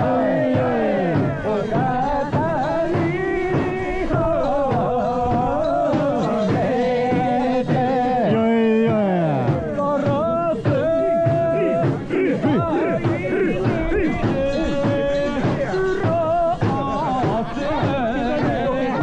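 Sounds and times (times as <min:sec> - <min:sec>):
music with singing: 0:00.0 - 0:19.0.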